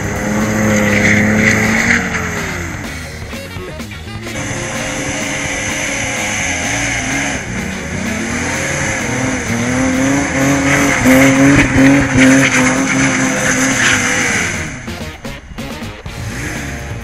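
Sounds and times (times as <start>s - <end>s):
car engine revving hard: 0.0s - 3.0s, 4.4s - 15.0s, 16.2s - 17.0s.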